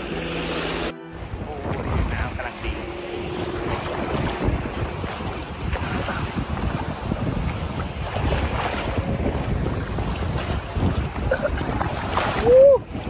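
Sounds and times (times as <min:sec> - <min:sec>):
sea waves washing: 0:00.0 - 0:13.0
wind buffeting microphone: 0:01.1 - 0:13.0.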